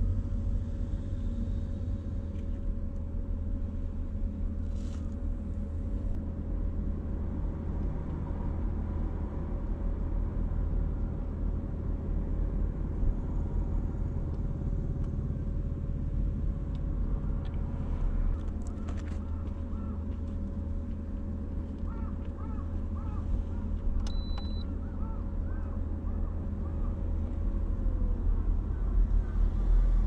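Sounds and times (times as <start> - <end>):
low rumble: 0.0 - 30.0
mid-pitched hum: 0.0 - 30.0.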